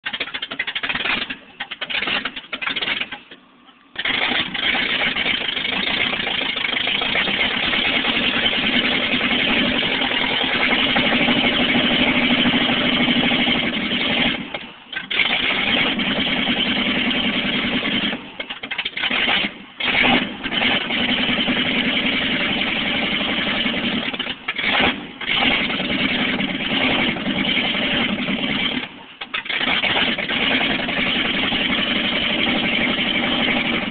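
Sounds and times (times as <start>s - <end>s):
pickup truck engine starting and running: 0.0s - 33.9s.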